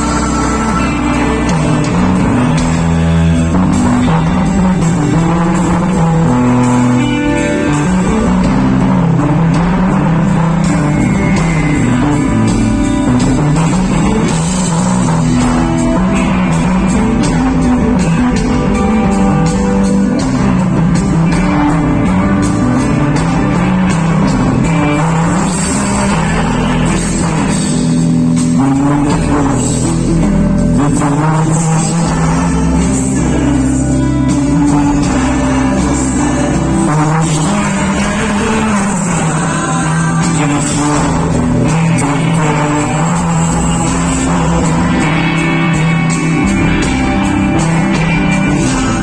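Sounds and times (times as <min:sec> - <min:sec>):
electric guitar: 0:00.0 - 0:49.0
moving bass line: 0:00.0 - 0:49.0
steady drum beat: 0:00.0 - 0:49.0.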